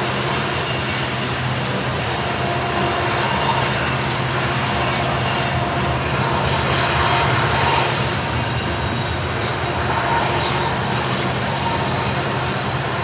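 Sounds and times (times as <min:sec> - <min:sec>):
diesel locomotive engines droning: 0:00.0 - 0:13.0.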